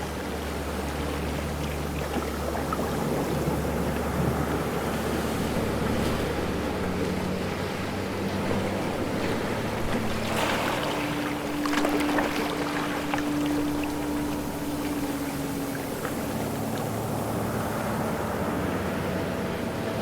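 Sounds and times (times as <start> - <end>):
low motor hum: 0.0 - 20.0
ocean waves washing: 0.0 - 20.0.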